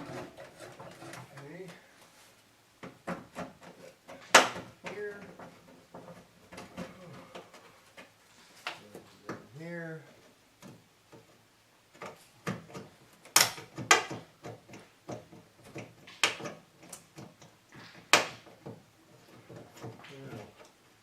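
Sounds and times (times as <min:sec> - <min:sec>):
knocks and clunks of hand work: 0:00.0 - 0:01.8, 0:02.8 - 0:09.5, 0:10.1 - 0:20.8.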